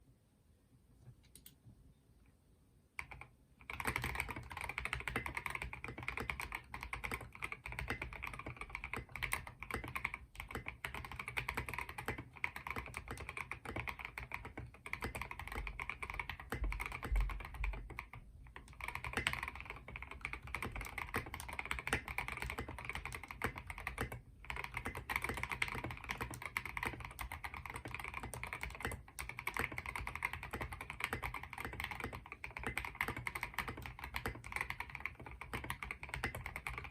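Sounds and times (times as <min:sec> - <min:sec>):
fast typing on mechanical keyboard: 0:03.0 - 0:36.9.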